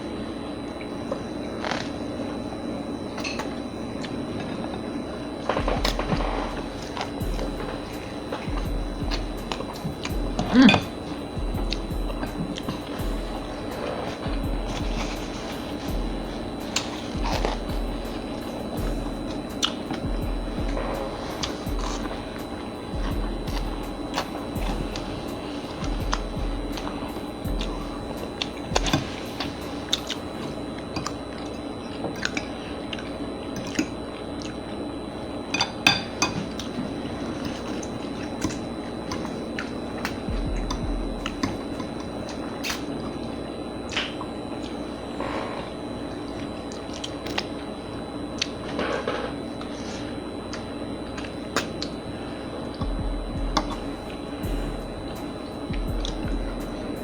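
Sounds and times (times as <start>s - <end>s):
people chewing and smacking: 0.1s - 57.0s.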